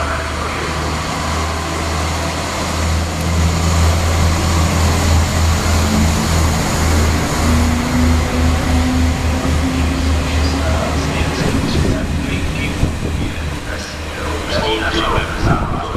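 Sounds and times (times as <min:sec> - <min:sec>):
diesel engine drone: 0:00.0 - 0:15.9
train rumbling past: 0:00.0 - 0:15.9.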